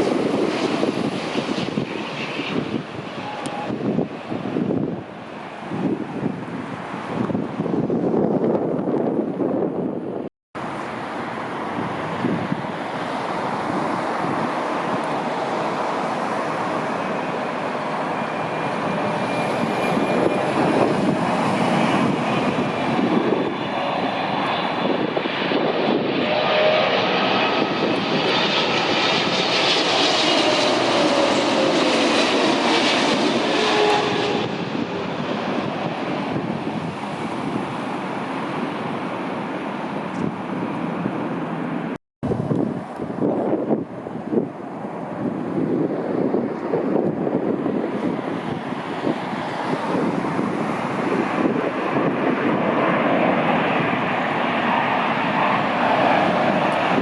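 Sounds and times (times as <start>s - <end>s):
jet airliner passing overhead: 0.0s - 57.0s.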